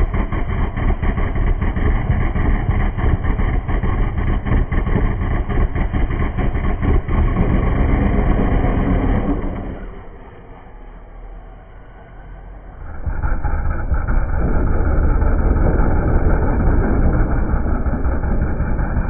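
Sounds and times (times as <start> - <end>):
race car engine idling loud: 0.0 - 19.0.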